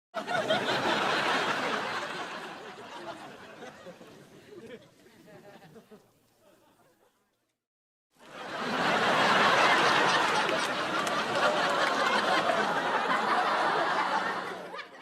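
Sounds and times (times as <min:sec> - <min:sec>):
audience laughter: 0:00.2 - 0:07.2, 0:08.2 - 0:15.0.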